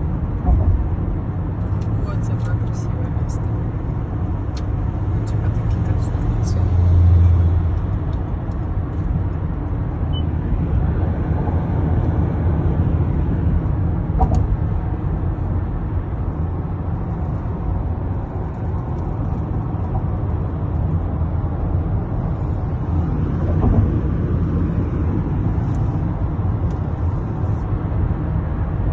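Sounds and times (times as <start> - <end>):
road and tyre rumble: 0.0 - 28.9.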